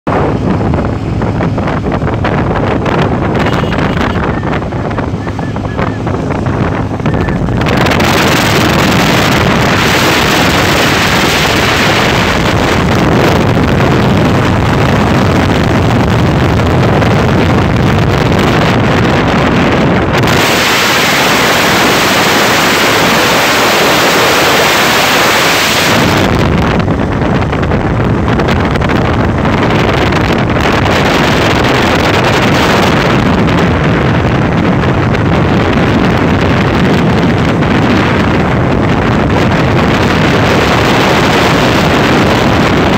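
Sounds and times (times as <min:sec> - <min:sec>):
vehicle rumble: 0:00.0 - 0:42.9
wind buffeting microphone: 0:00.1 - 0:42.9.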